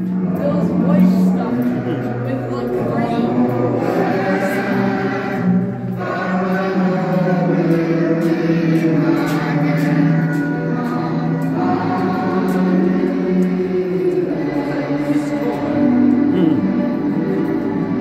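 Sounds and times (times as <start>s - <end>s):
choir singing sustained chords: 0.0s - 18.0s.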